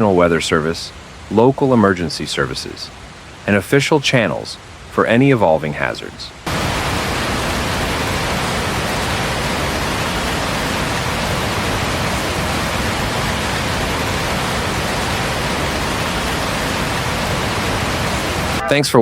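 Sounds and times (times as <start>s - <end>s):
water rushing: 0.0s - 18.7s.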